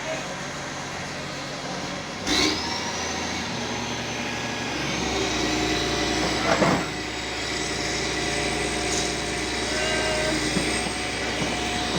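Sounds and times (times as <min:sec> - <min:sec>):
heavy machine engine running: 0:00.0 - 0:11.9.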